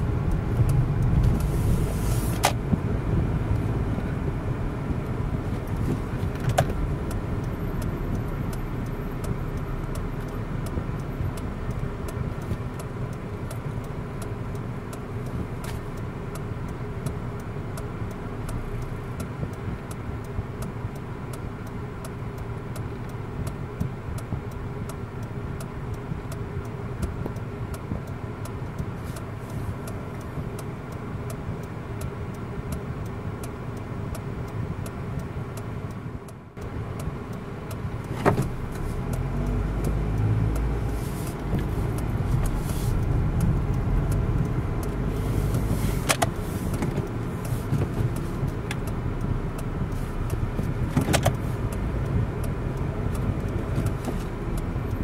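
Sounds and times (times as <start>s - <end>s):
car engine and road noise: 0.0s - 55.0s
sharp clicks: 5.0s - 55.0s.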